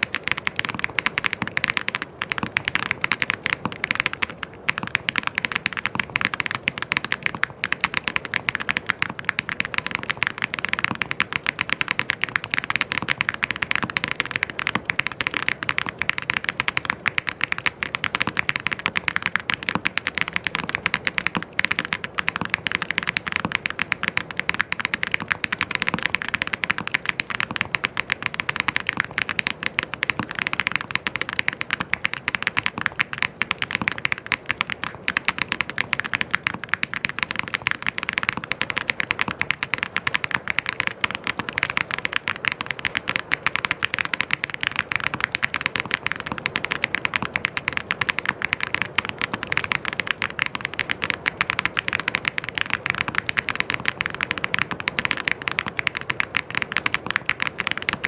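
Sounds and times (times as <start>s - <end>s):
typing on mechanical keyboard: 0.0s - 58.0s.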